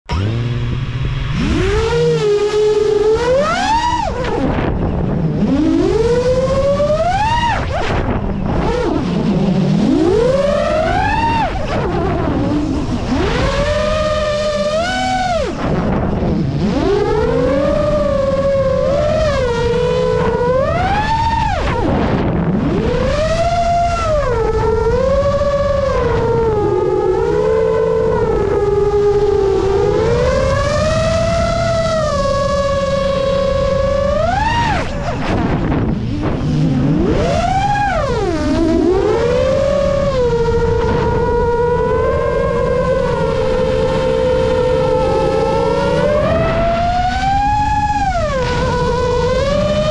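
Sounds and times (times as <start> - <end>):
rushing propeller and wind noise: 0.0 - 49.9
drone motors whining: 0.1 - 49.9.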